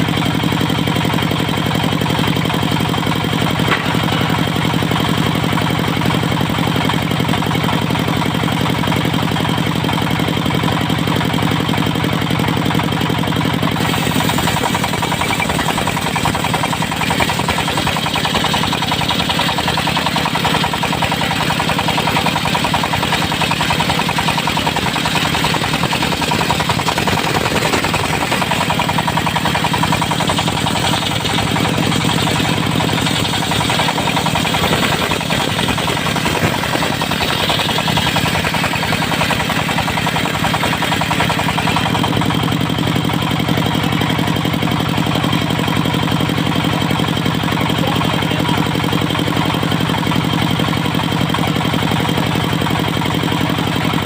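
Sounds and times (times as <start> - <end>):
circular saw blade spinning: 0.0 - 54.0
diesel engine running: 0.0 - 54.0.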